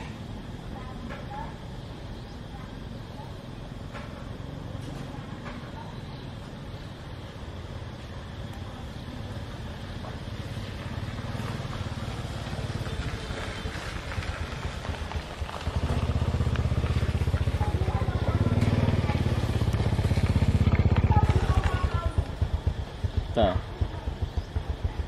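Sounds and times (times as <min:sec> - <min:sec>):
motor vehicle engine droning: 0:00.0 - 0:25.0.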